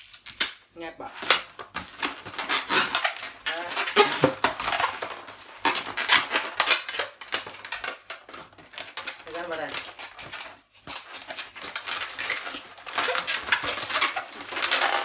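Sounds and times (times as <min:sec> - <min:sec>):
balloons squeaking and rubbing: 0:01.0 - 0:15.0.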